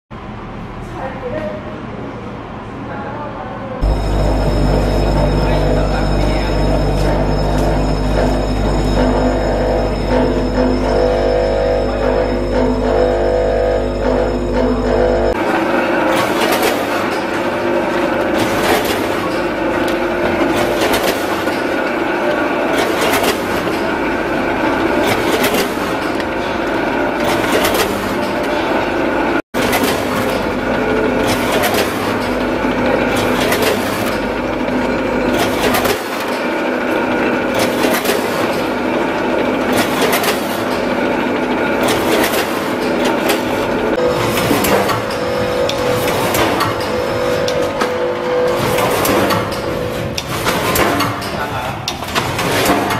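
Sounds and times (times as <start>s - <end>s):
machine hum: 3.7s - 52.9s.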